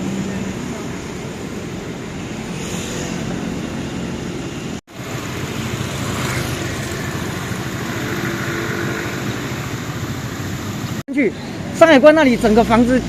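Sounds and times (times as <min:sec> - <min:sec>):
vehicle engine noise: 0:00.0 - 0:13.0.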